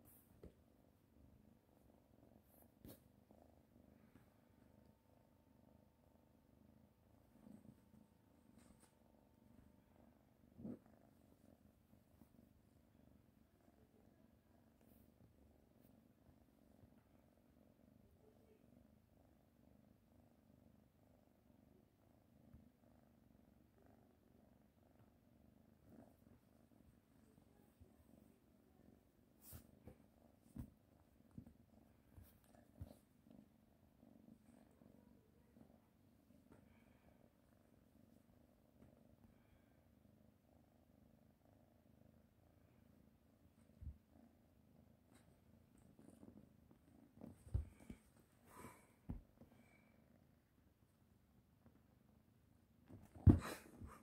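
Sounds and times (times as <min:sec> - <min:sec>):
kitten purring: 0:00.0 - 0:54.0.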